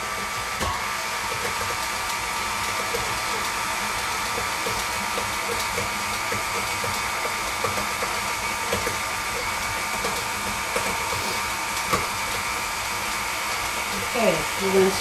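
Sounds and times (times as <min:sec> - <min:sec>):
beater mixing in glass bowl: 0:00.0 - 0:15.0
stand mixer motor running: 0:00.0 - 0:15.0.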